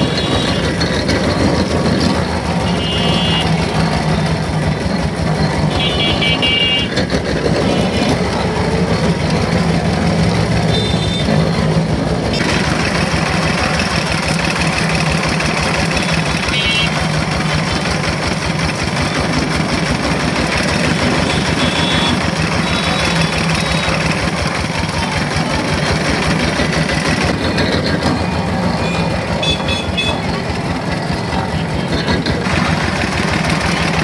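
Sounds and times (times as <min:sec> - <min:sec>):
rollers crushing sugarcane: 0:00.0 - 0:34.0.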